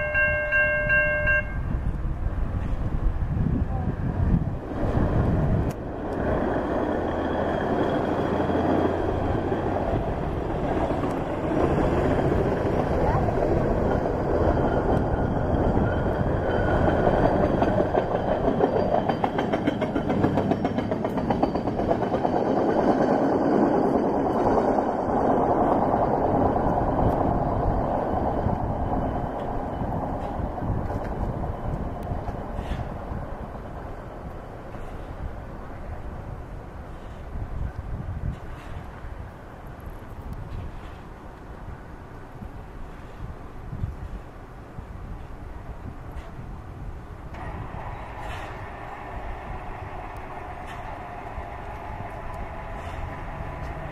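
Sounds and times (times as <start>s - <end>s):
truck rumbling on rails: 0.0s - 53.9s.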